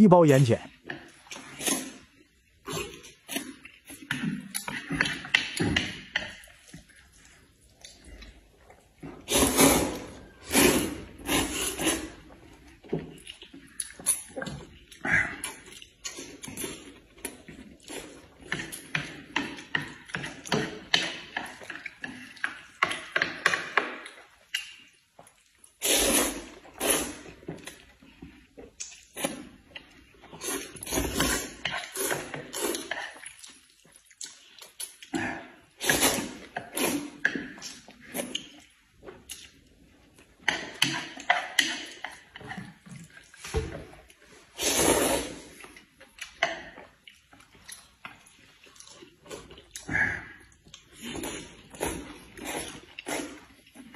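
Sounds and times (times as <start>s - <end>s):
people slurping noodles: 1.1s - 24.8s, 25.6s - 27.8s, 30.2s - 39.5s, 44.3s - 46.7s, 47.7s - 53.9s.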